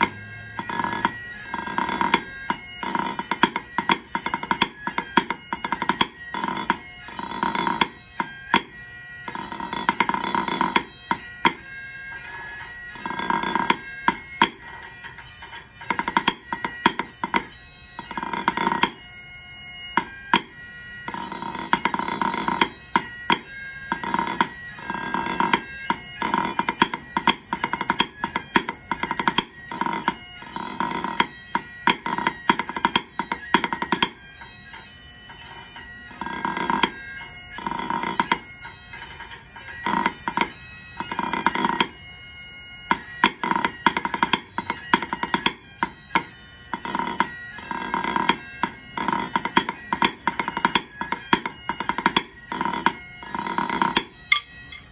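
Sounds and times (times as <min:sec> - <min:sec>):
sticks on practice pad: 0:00.0 - 0:08.7, 0:09.3 - 0:19.0, 0:20.0 - 0:20.5, 0:21.1 - 0:34.2, 0:36.2 - 0:42.0, 0:42.9 - 0:54.9
bagpipes playing a tune: 0:00.0 - 0:54.9.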